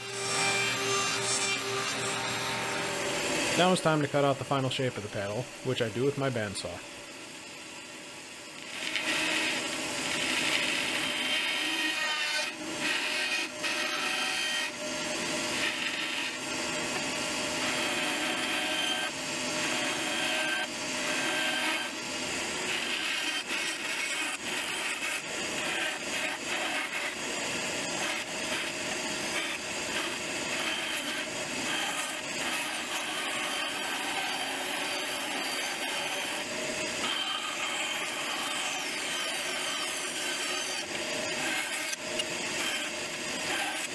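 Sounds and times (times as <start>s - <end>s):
bandsaw cutting wood: 0.0s - 6.8s, 8.6s - 43.9s.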